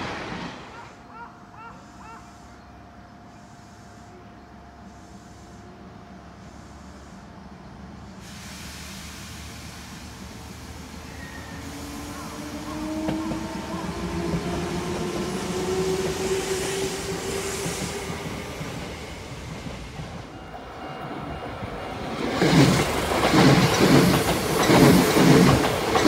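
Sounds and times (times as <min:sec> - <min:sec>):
train wheels rumbling on rails: 0:00.0 - 0:01.0, 0:04.8 - 0:26.0.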